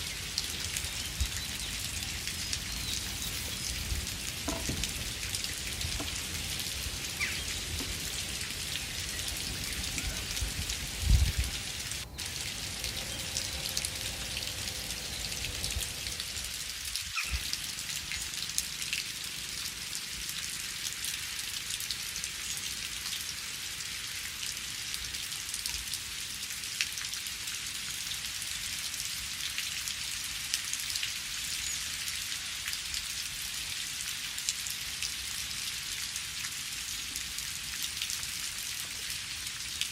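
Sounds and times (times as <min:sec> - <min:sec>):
rain patter in forest: 0:00.0 - 0:39.9.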